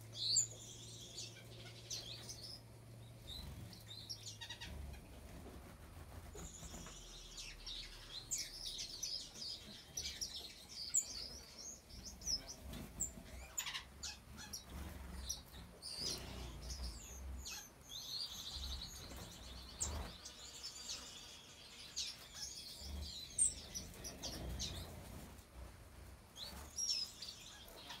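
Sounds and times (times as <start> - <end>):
finches chirping and trilling: 0.1 - 25.2, 26.4 - 28.0.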